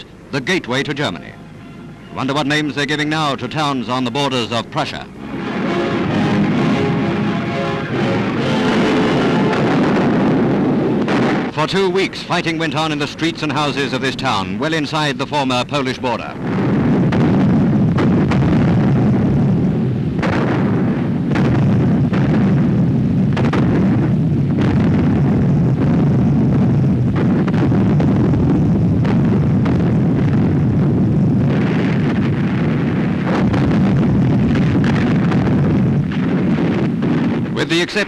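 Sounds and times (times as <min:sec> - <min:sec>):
sharp bangs: 0:00.0 - 0:14.4, 0:15.7 - 0:38.0
rumble of explosions and gunfire: 0:00.0 - 0:38.0.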